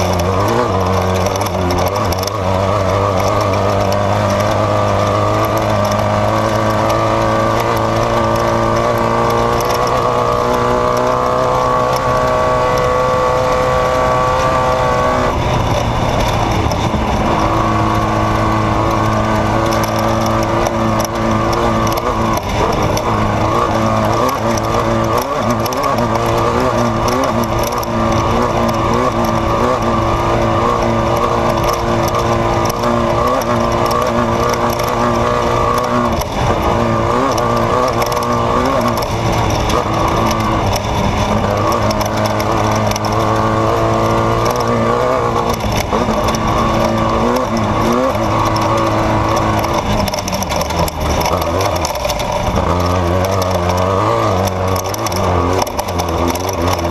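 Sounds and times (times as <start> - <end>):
race vehicle engine revving: 0.0 - 56.9.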